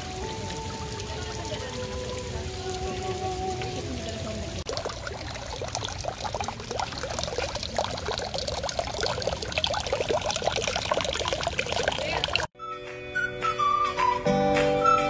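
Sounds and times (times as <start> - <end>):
water trickling and splashing: 0.0 - 12.6.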